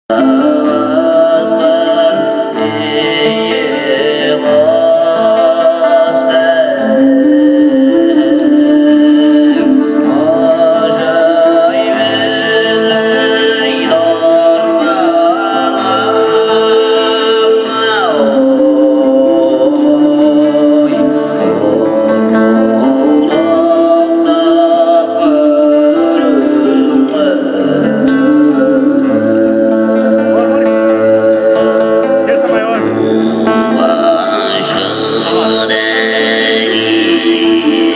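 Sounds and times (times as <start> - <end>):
plucked strings: 0.1 - 37.9.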